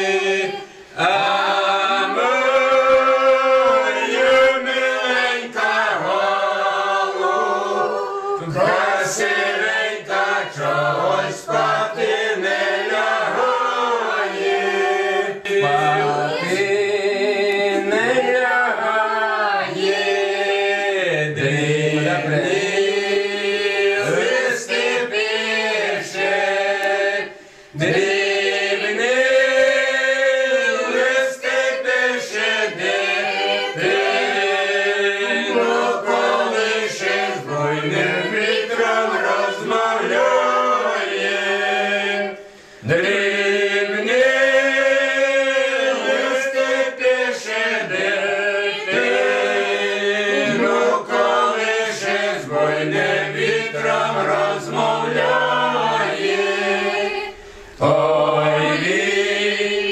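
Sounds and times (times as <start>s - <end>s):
group singing unaccompanied: 0.0s - 59.9s.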